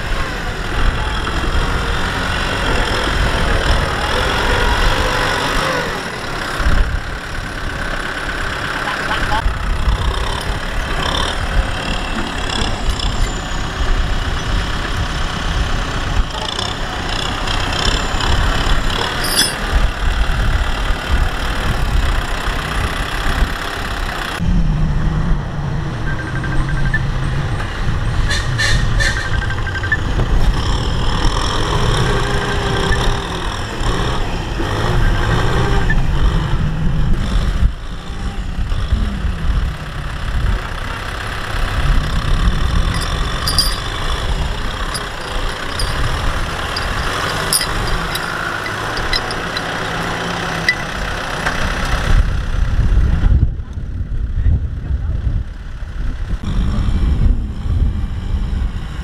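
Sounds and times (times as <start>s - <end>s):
tractor engines under load: 0.0s - 24.4s, 26.6s - 53.4s.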